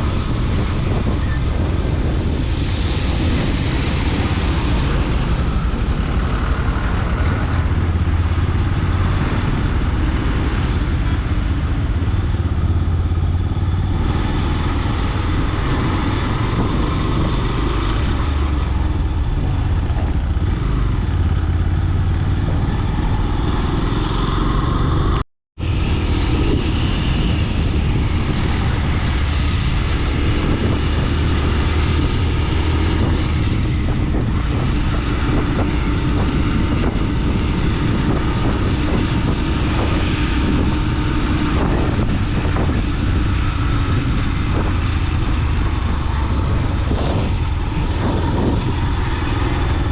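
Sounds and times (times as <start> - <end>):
vehicle engine and road noise: 0.0 - 49.9.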